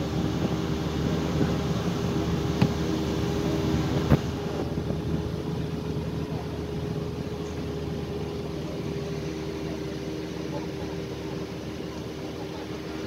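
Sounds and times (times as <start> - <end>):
gravel road rumble: 0.0 - 13.0
vehicle engine running: 0.0 - 13.0.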